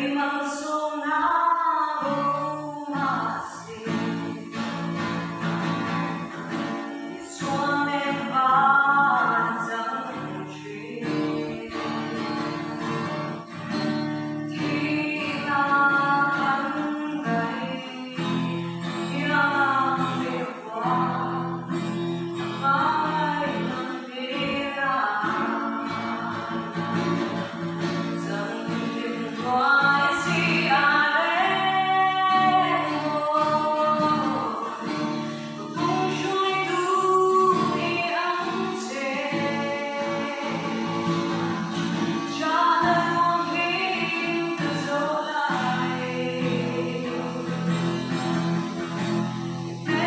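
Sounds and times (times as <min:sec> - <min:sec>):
woman singing a hymn: 0:00.0 - 0:04.8, 0:07.1 - 0:12.8, 0:14.4 - 0:21.8, 0:22.5 - 0:50.0.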